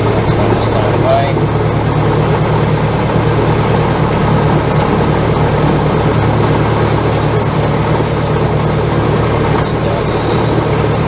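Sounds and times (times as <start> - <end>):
propeller plane engine idling: 0.0 - 11.0.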